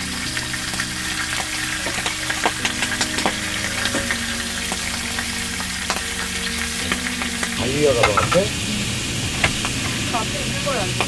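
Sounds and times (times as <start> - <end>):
fish sizzling in a frying pan: 0.0 - 11.0
low hum: 0.0 - 11.0.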